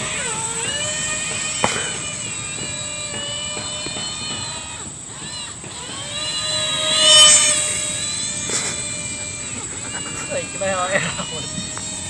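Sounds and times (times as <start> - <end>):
electric model plane motor whining: 0.0 - 12.0.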